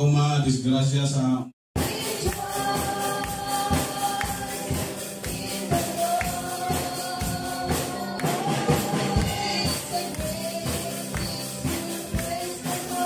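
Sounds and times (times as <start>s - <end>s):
drums: 1.8s - 13.0s
person singing into microphone: 1.8s - 13.0s.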